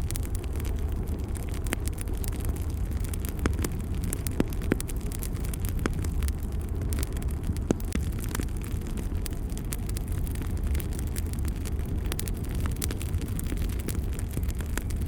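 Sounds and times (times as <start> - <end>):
fire flames rumbling: 0.0 - 15.0
wood fire crackling and popping: 0.0 - 15.0.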